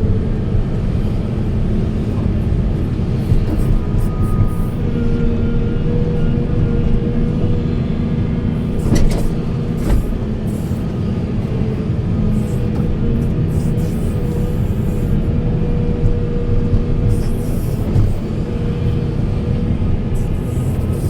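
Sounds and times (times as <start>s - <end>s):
diesel engine rumble: 0.0s - 21.0s
hydraulic whine: 0.0s - 21.0s.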